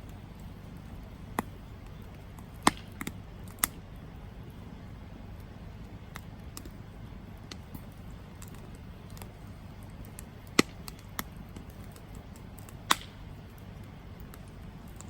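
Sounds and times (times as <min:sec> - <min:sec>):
campfire crackling pops: 0:00.0 - 0:15.0
campfire flames rushing: 0:00.0 - 0:15.0.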